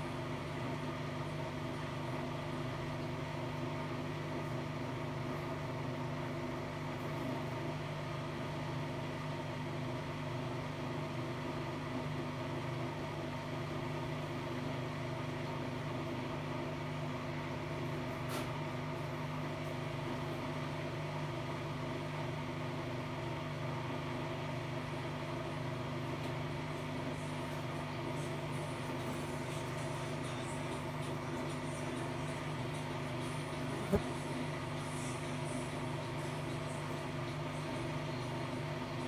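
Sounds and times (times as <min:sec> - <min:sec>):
washing machine motor hum: 0:00.0 - 0:39.0.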